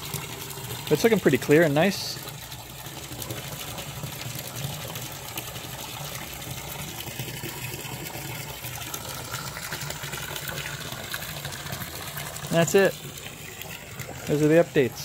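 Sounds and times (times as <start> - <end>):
hose water splashing into pool: 0.0 - 15.0.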